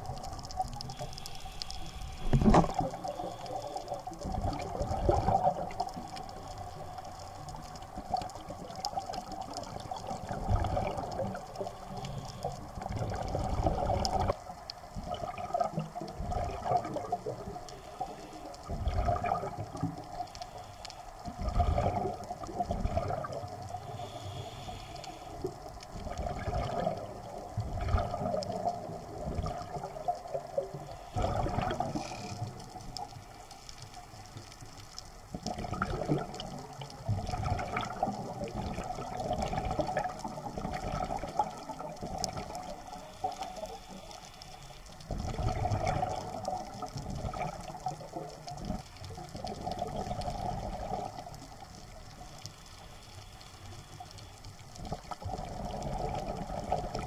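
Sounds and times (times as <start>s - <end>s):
underwater exhaled air bubbling: 0.0s - 57.0s.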